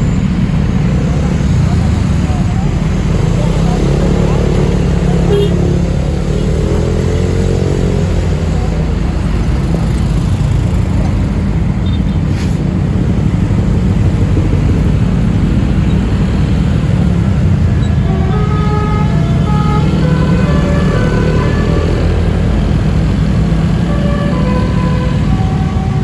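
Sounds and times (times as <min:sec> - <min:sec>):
road noise: 0:00.0 - 0:26.0
vehicle engine rumbling: 0:00.0 - 0:26.0.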